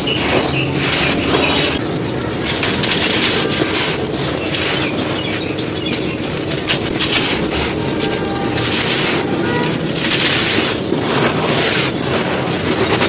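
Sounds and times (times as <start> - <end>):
sand shapes crunching and crumbling: 0.0 - 13.0.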